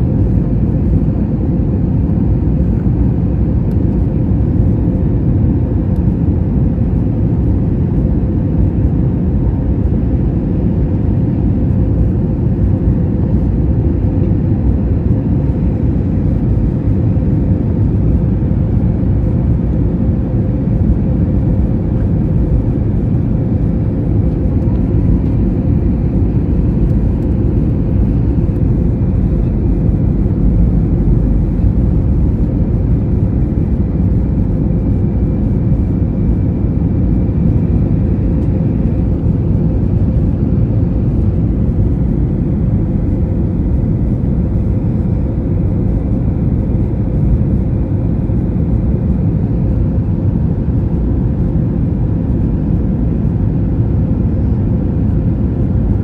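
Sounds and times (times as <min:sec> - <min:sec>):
constant hum: 0:00.0 - 0:56.0
engine and air rumble: 0:00.0 - 0:56.0.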